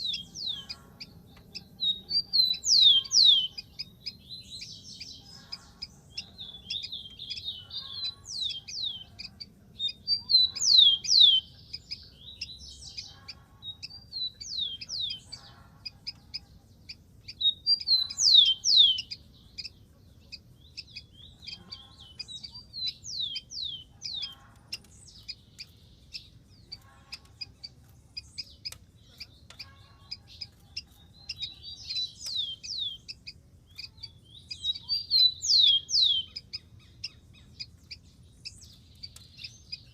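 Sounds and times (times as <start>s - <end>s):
sparrow singing whistled notes: 0.0s - 39.9s.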